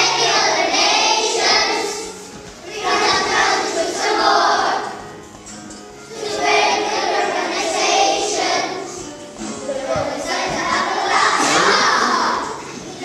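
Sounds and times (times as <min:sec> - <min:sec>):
children singing: 0:00.0 - 0:05.2, 0:06.0 - 0:13.0
music: 0:00.0 - 0:13.0.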